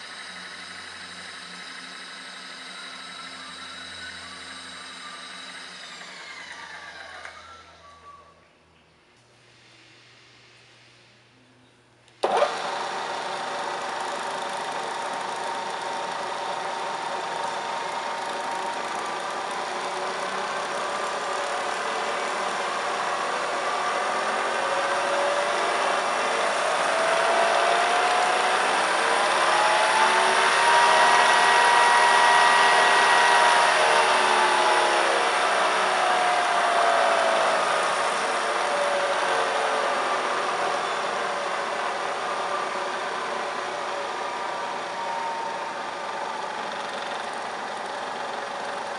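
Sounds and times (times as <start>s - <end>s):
milling machine spindle humming: 0.0s - 6.8s, 12.2s - 48.9s.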